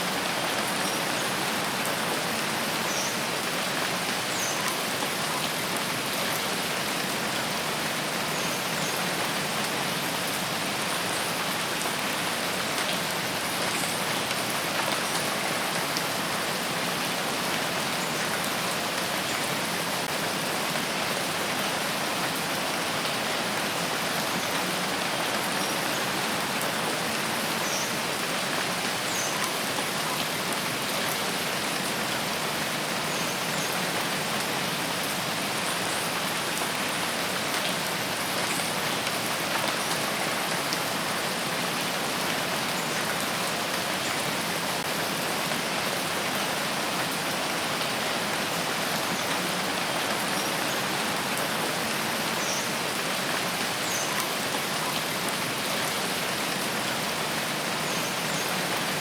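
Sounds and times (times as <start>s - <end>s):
steady rain in forest: 0.0s - 59.0s.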